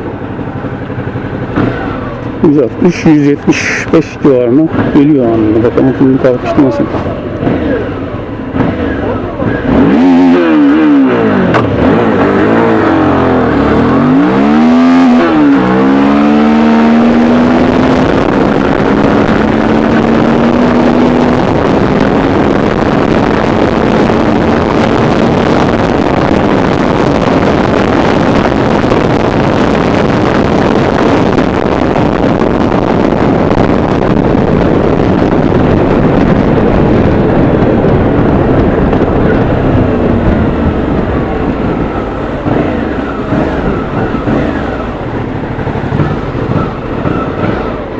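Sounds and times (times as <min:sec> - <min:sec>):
motorcycle engine revving: 0:00.0 - 0:47.9
wind noise: 0:09.4 - 0:47.9.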